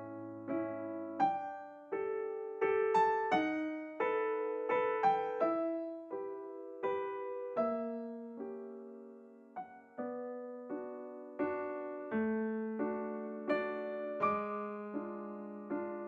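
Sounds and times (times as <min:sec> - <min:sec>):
slow solo piano piece: 0:00.0 - 0:16.0.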